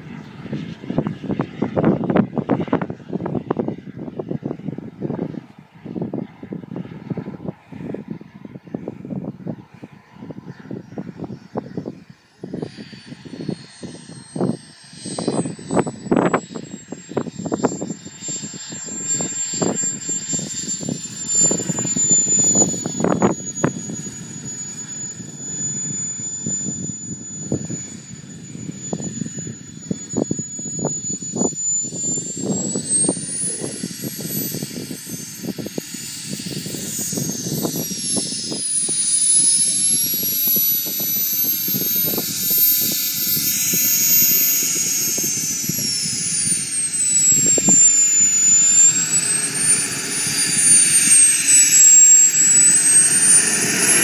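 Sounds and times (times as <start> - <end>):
jet turbine whining: 0.0 - 54.0
wind rumbling on microphone: 0.0 - 54.0.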